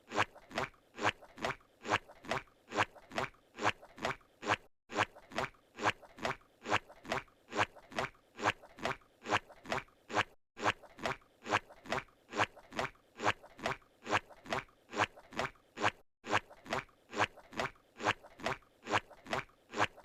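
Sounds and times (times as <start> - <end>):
cartoon footsteps: 0.0 - 20.0.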